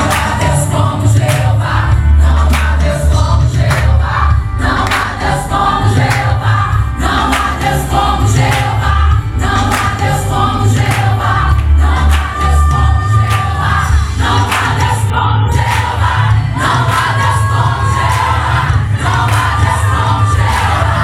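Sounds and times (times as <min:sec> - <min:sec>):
band with bass and drums: 0:00.0 - 0:21.0
choir singing: 0:00.0 - 0:21.0.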